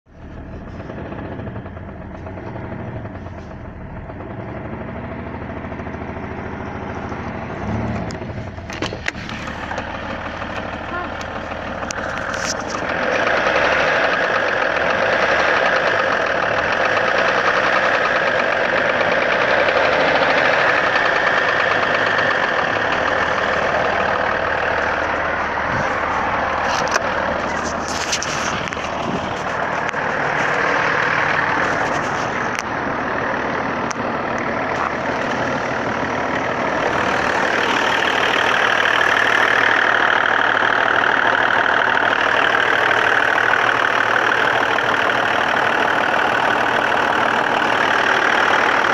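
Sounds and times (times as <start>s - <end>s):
diesel engine idling with knock: 0.1s - 48.9s.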